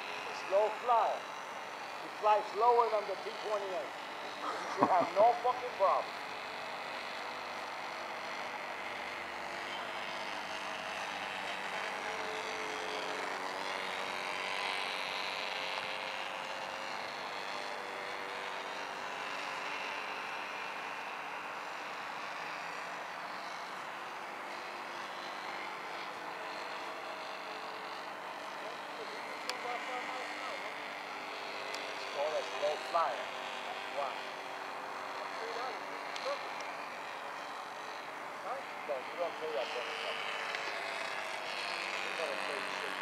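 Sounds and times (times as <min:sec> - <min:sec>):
model airplane motor droning: 0:00.0 - 0:43.0.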